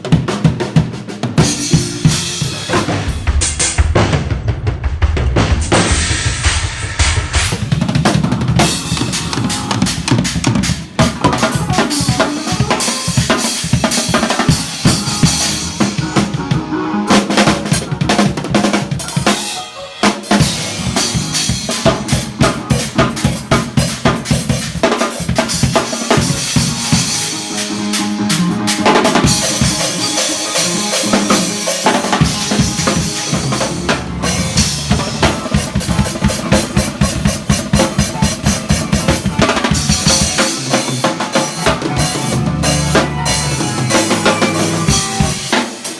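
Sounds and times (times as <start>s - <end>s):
drum kit played fast: 0.0s - 45.9s.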